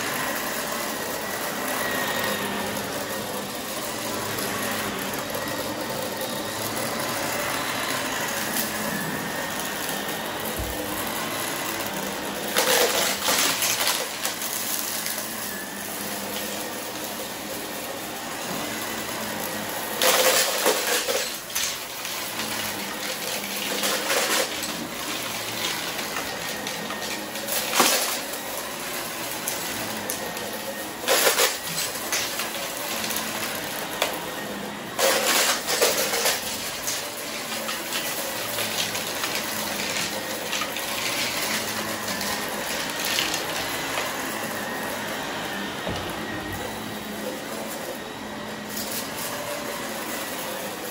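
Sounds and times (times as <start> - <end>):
vacuum cleaner running over carpet: 0.0 - 50.9.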